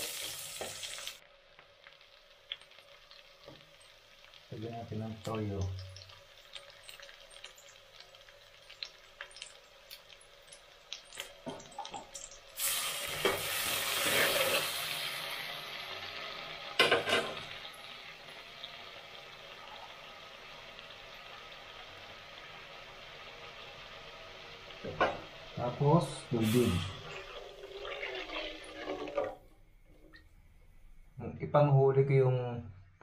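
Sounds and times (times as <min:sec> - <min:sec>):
loud sizzle of sauce in pot: 0:00.0 - 0:29.8
onion and garlic sauteing in pot: 0:00.0 - 0:31.1.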